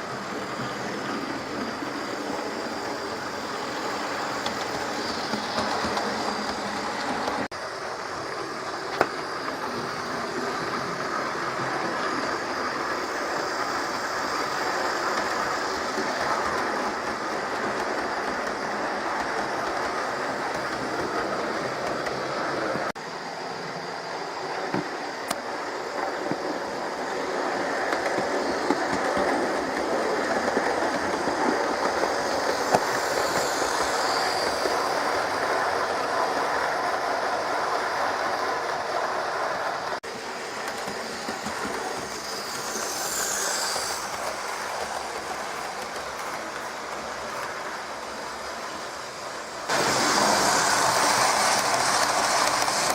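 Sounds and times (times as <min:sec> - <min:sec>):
model train motor whirr: 0:00.0 - 0:52.9.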